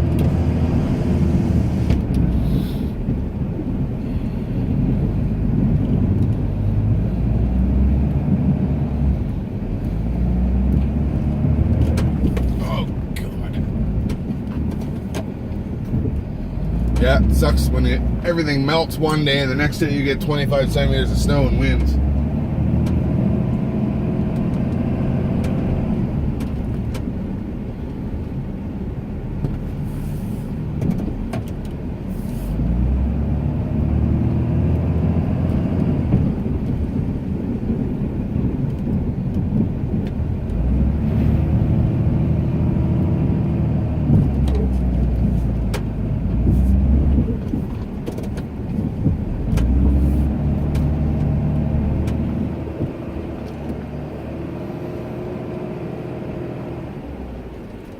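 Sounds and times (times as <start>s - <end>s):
truck engine working: 0.0s - 57.9s.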